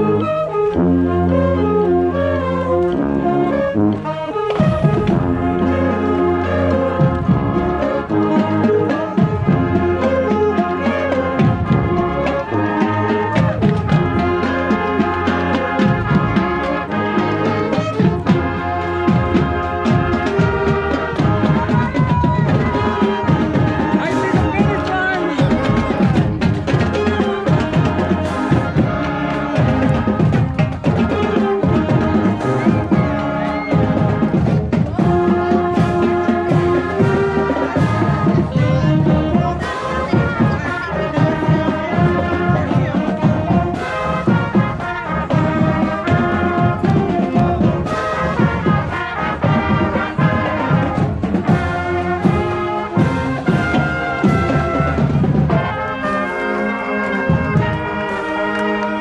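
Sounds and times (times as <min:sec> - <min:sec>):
brass playing held notes: 0:00.0 - 0:59.0
steady drum beats: 0:02.5 - 0:59.0.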